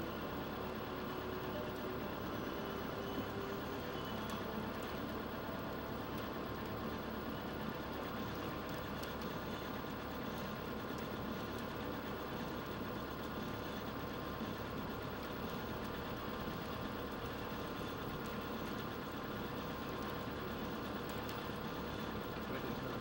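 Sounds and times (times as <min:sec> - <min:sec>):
steady engine hum: 0:00.0 - 0:23.0.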